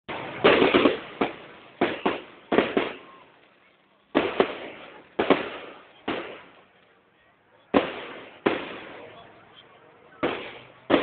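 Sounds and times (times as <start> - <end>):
fireworks bangs: 0.1 - 11.0.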